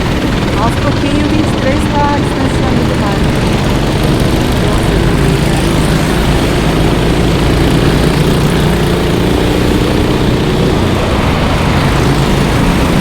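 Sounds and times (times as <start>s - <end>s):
racing kart engines droning: 0.0s - 13.0s
thick rushing noise: 0.0s - 13.0s.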